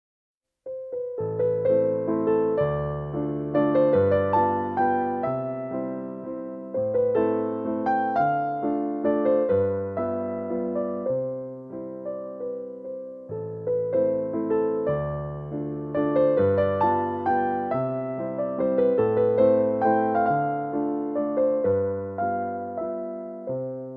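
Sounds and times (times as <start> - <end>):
slow electric piano melody: 0.7 - 23.9.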